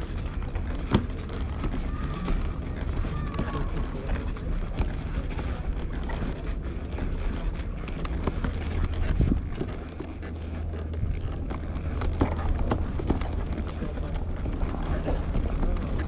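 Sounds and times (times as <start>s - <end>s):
footsteps clicking: 0.0s - 16.0s
steady low rumble: 0.0s - 16.0s.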